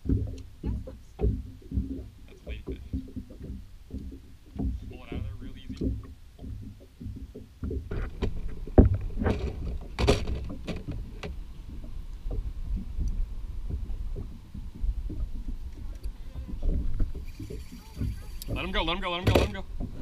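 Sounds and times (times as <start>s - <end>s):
knocking on boat: 0.0s - 20.0s
water slapping boat hull: 0.0s - 20.0s.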